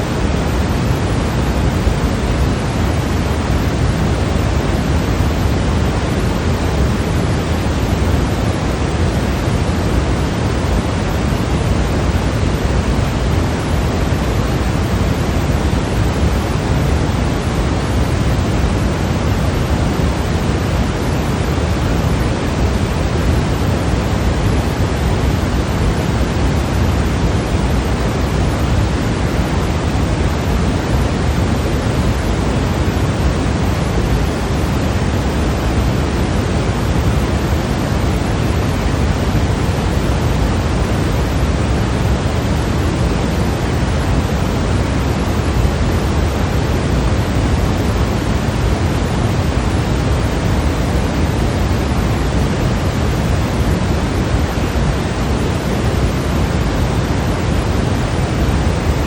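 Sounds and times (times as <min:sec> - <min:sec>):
white noise: 0:00.0 - 0:59.0.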